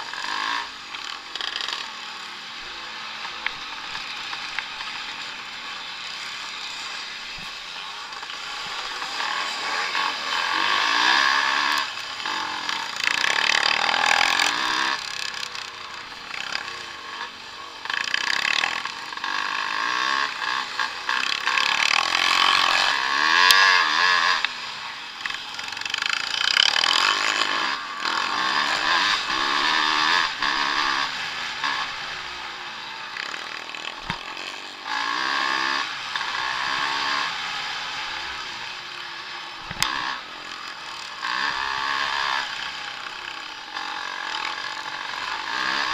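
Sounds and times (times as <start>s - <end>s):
motocross engines revving: 0.0s - 45.9s.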